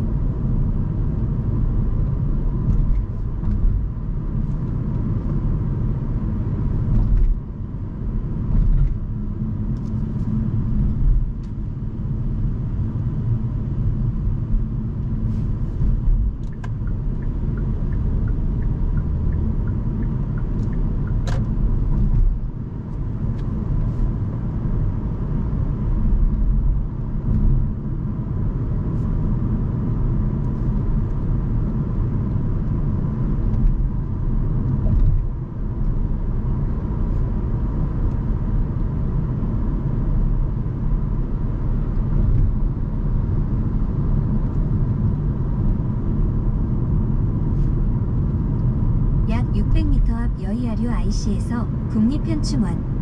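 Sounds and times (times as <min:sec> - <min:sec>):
road and tyre rumble: 0:00.0 - 0:53.0.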